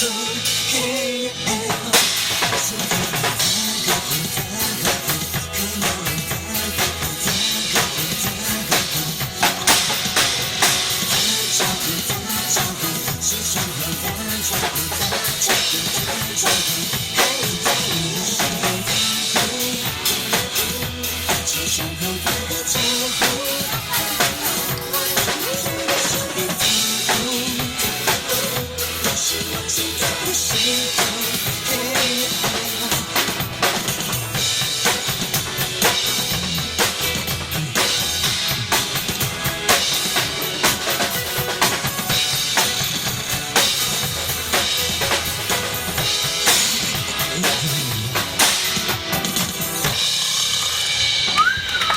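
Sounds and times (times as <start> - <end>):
instrumental pop music: 0.0 - 51.9.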